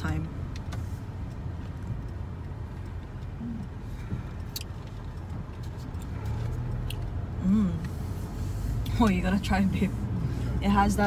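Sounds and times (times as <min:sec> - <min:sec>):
car driving rumble from inside: 0:00.0 - 0:11.0.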